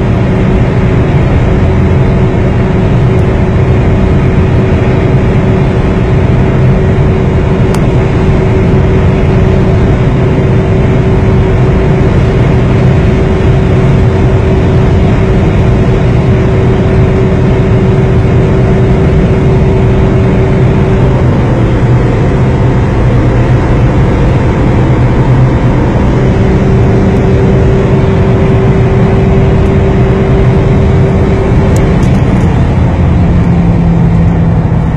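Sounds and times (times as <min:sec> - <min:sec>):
car engine droning at high revs: 0:00.0 - 0:34.9.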